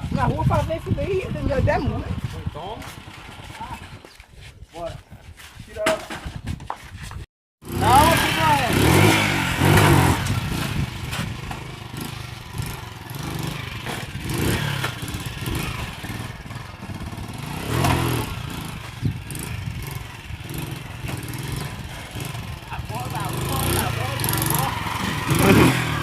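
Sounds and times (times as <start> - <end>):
motorcycle engine revving: 0.0 - 4.0, 7.6 - 26.0.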